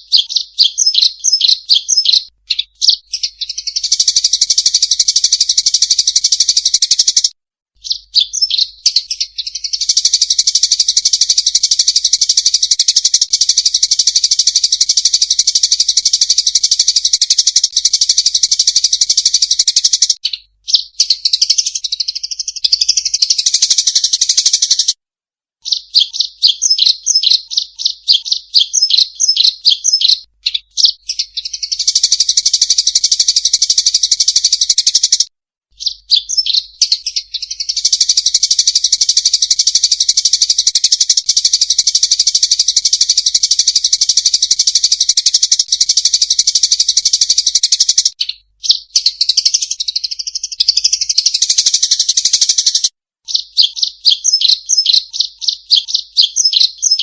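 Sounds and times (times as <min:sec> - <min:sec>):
sparrows chattering and chirping: 0:00.0 - 0:25.0, 0:25.6 - 0:57.0.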